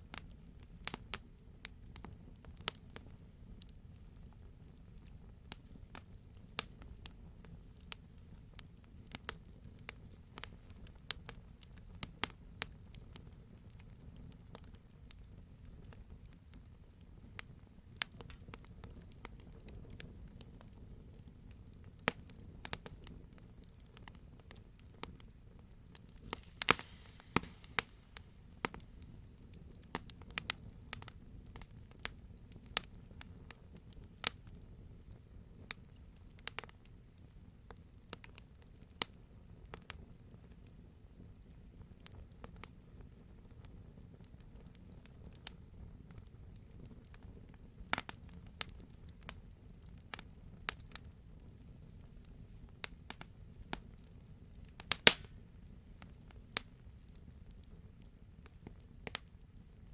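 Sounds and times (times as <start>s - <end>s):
campfire crackling and popping: 0.0s - 59.9s
low rumble of burning fire: 0.0s - 59.9s.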